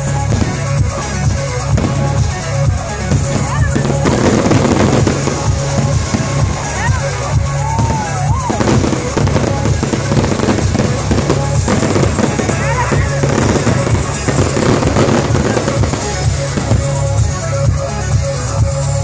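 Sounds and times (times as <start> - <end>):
fireworks bursting and crackling: 0.0 - 19.0
loud music with deep bass: 0.0 - 19.0.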